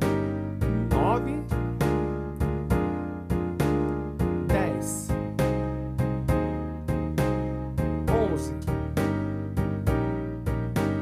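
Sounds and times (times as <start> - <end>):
slow blues backing track: 0.0 - 11.0.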